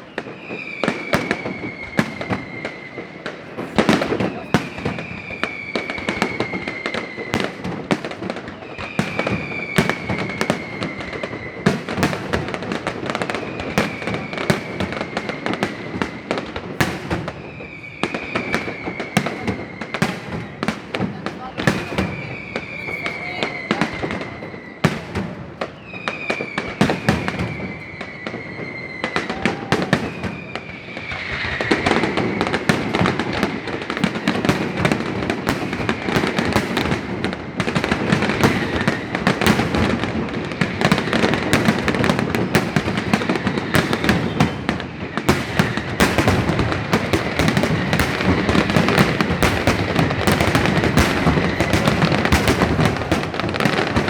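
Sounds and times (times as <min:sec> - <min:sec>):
falling fireworks whistles: 0:00.0 - 0:54.0
fireworks bangs and crackles: 0:00.0 - 0:54.0.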